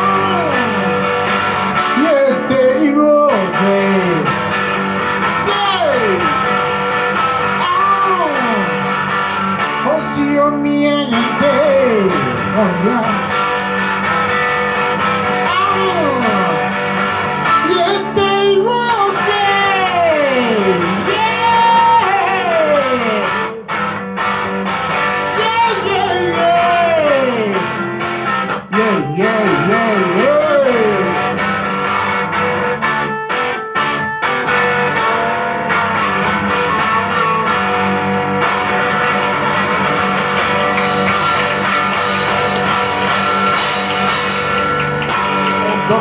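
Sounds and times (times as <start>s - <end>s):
live rock band with guitars: 0.0s - 46.0s.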